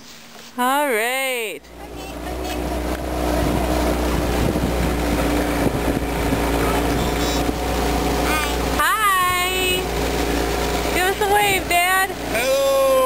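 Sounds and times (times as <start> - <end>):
outboard motor running: 1.4 - 13.0
wind buffeting microphone: 1.8 - 12.3.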